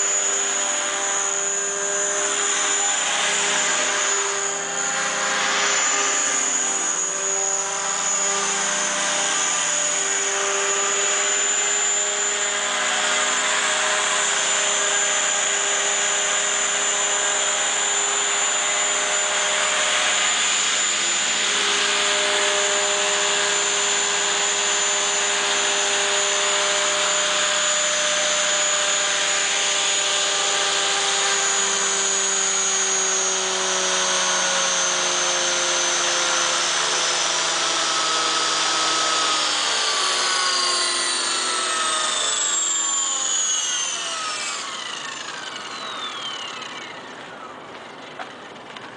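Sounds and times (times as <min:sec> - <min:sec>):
helicopter rotor hum: 0:00.0 - 0:48.9
motor and gear whine: 0:00.0 - 0:48.9.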